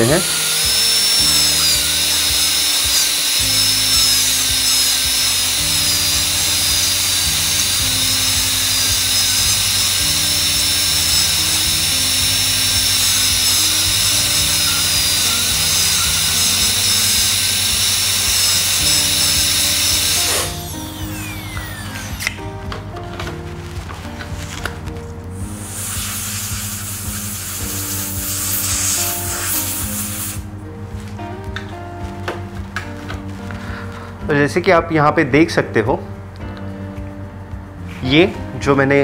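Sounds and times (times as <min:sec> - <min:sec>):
dental drill whine: 0:00.0 - 0:31.8
background music: 0:00.0 - 0:39.0.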